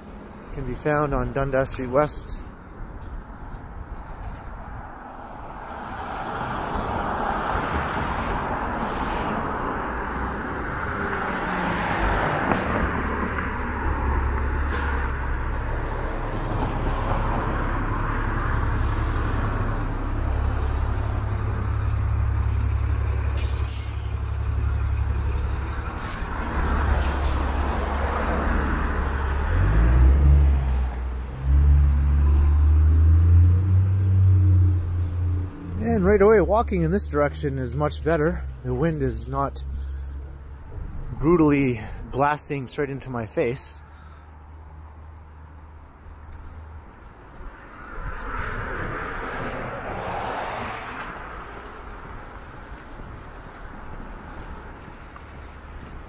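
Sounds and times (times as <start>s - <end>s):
street traffic: 0.0s - 56.0s.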